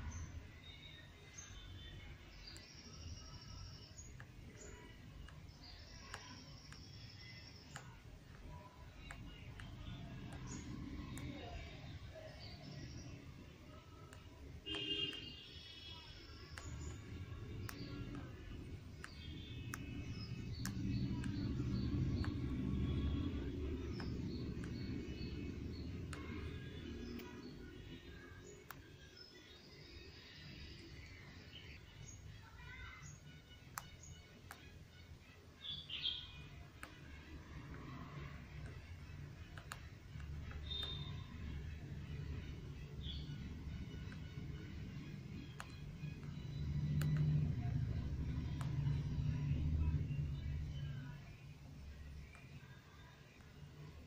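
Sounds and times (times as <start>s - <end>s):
small birds chirping: 0.0s - 54.0s
soft clicks: 0.0s - 54.0s.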